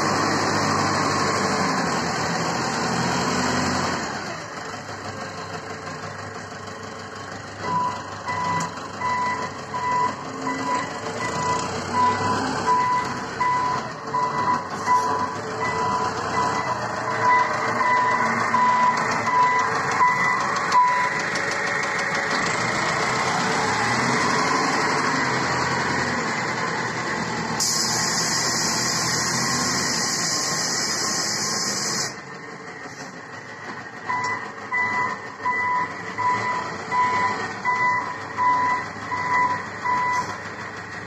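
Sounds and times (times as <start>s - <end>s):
diesel truck engine running: 0.0s - 41.0s.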